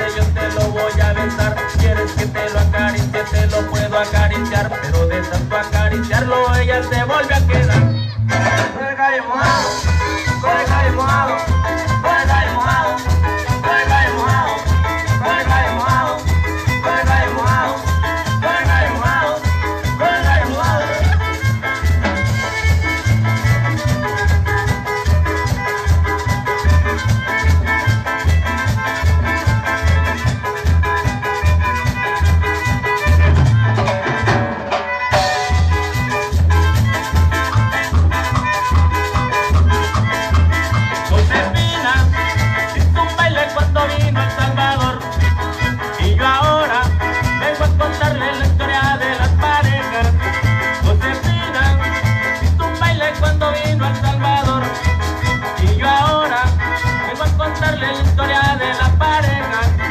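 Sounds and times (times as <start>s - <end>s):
drum kit: 0.0s - 59.9s
guitars: 0.0s - 59.9s.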